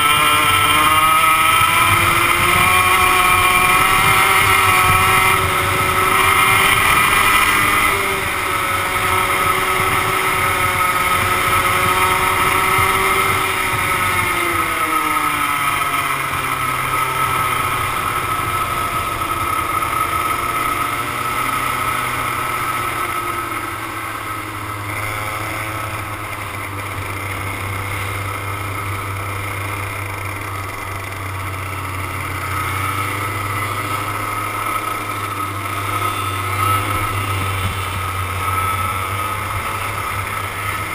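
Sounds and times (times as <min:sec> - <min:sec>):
two-stroke kart engine running: 0:00.0 - 0:40.9.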